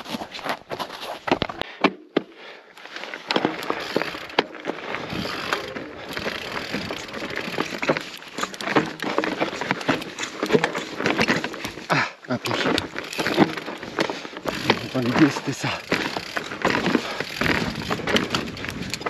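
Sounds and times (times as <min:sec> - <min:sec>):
bike rattling: 0:02.8 - 0:19.0
bike tyres crunching over stones: 0:02.8 - 0:19.0.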